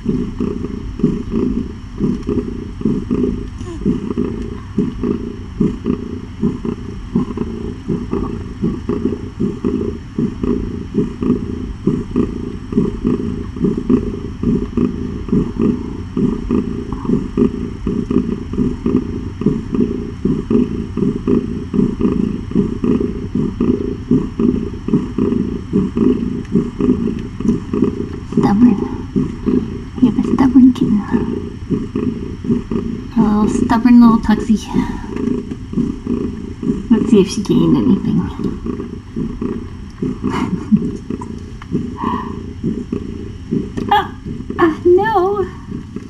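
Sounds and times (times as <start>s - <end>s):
cat purring loudly: 0.0s - 46.0s.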